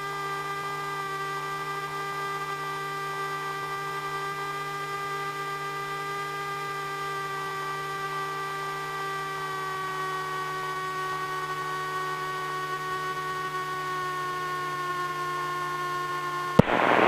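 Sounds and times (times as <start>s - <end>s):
light aircraft engine hum: 0.0s - 17.0s.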